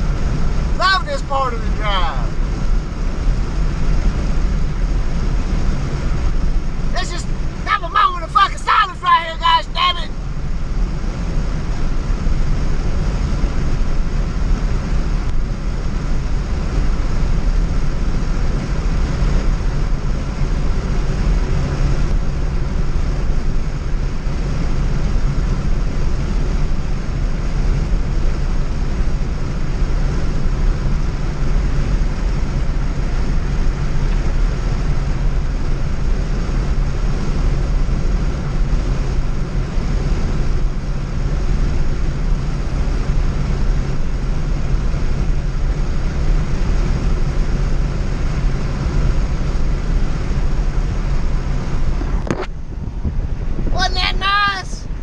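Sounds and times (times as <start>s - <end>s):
engine and tyre drone: 0.0s - 53.8s
wind and road noise: 0.0s - 55.0s.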